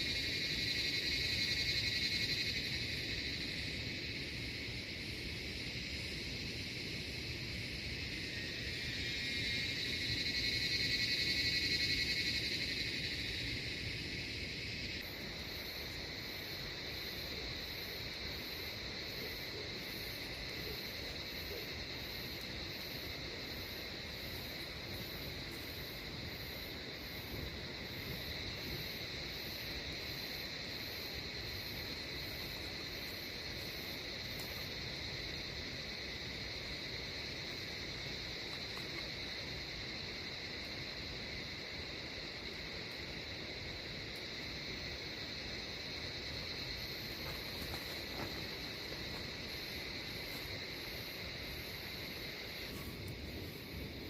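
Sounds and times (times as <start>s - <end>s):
crickets and insects trilling: 0.0s - 54.0s
frogs: 0.0s - 54.0s.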